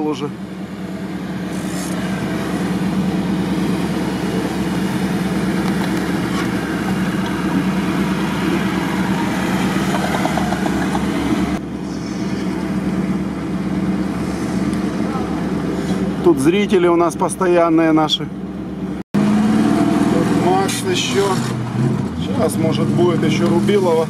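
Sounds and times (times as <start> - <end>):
off-road vehicle engine running: 0.0 - 24.0.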